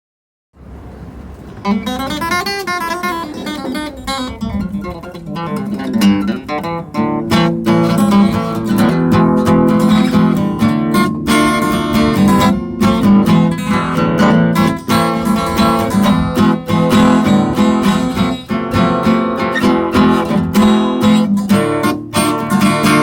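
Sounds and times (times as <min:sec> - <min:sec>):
guitar single notes: 0:01.4 - 0:23.0
guitar strummed chords: 0:01.6 - 0:23.0.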